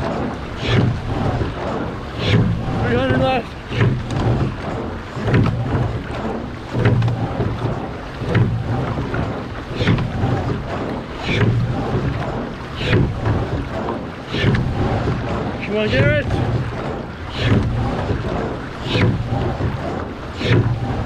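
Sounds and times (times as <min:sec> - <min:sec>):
oar stroke knock: 0:00.0 - 0:21.0
water rushing along hull: 0:00.0 - 0:21.0
wind on microphone: 0:00.0 - 0:21.0.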